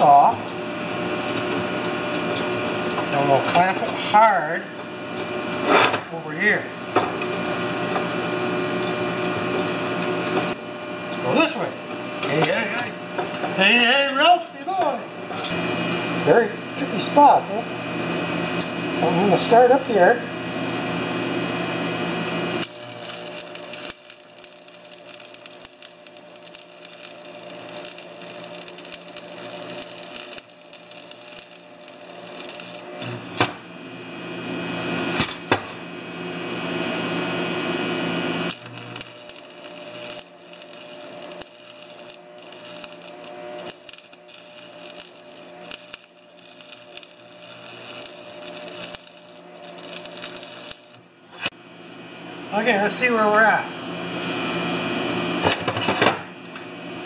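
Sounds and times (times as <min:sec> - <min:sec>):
welding arc crackling: 0:00.0 - 0:51.6.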